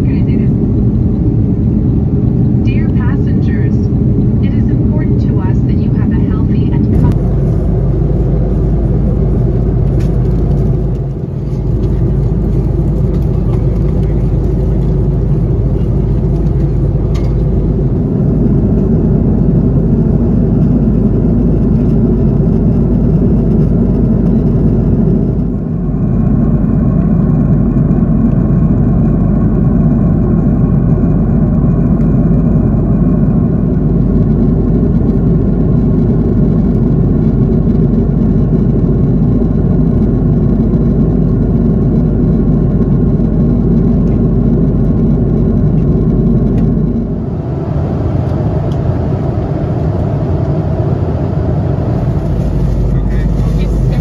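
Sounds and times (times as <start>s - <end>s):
faint steady whine: 0.0s - 54.0s
jet engine cabin rumble: 0.0s - 54.0s.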